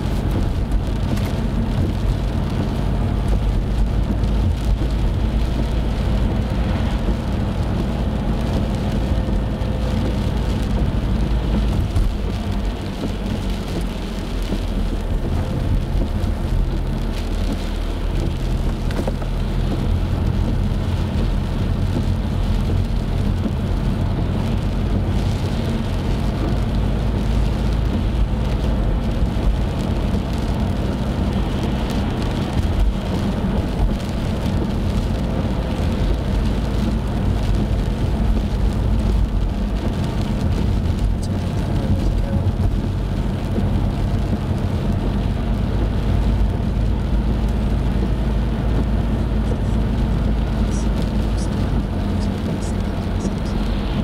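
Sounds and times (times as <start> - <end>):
low engine hum: 0.0 - 54.0
rain on car: 0.0 - 54.0
tyres on wet road: 0.0 - 54.0.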